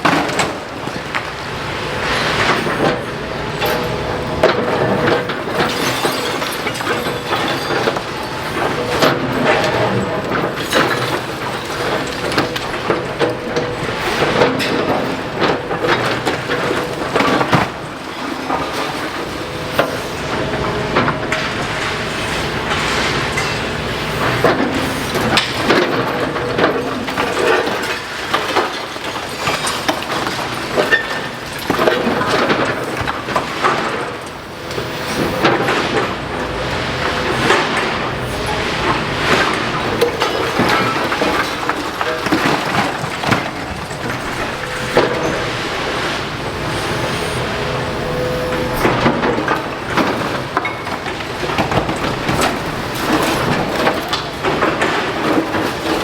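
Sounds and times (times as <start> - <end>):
masonry cracking and clattering: 0.0 - 47.2, 48.8 - 56.0
excavator rumbling: 0.0 - 56.0.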